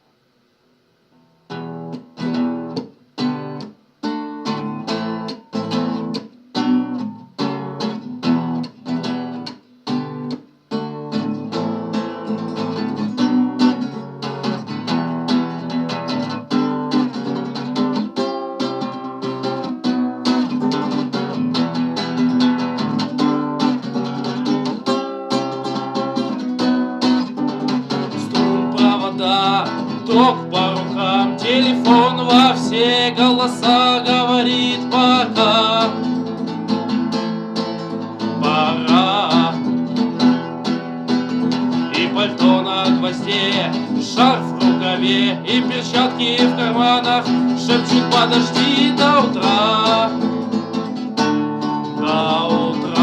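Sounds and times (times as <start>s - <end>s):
acoustic guitar strumming chords: 1.1s - 53.0s.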